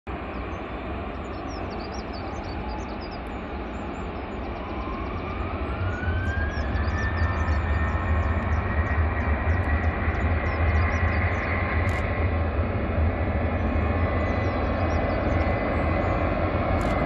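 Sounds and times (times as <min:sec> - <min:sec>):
jet engine whine: 0:00.1 - 0:17.0
jet engines rushing and rumbling: 0:00.1 - 0:17.0.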